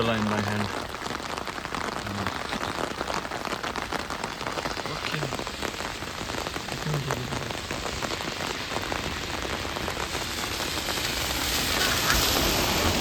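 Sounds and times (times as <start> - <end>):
heavy rain on an umbrella: 0.0 - 13.0.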